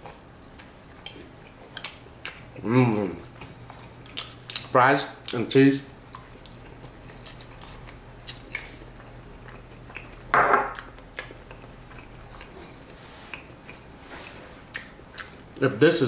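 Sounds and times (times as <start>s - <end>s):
person chewing wetly: 0.0s - 5.4s, 6.0s - 15.6s.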